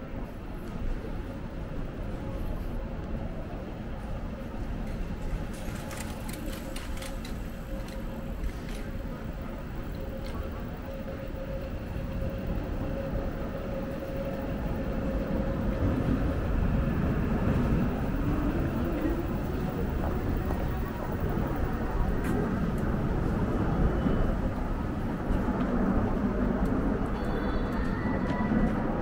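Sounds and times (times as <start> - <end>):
city street hum and rumble: 0.0 - 29.0.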